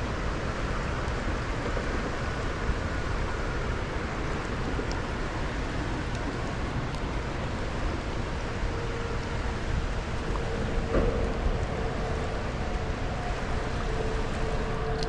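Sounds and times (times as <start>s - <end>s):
fast river water rushing: 0.0s - 15.0s.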